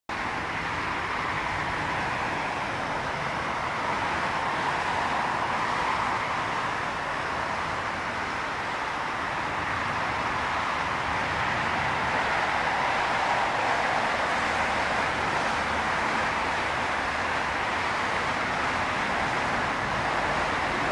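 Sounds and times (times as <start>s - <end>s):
jet engine noise: 0.2s - 20.9s.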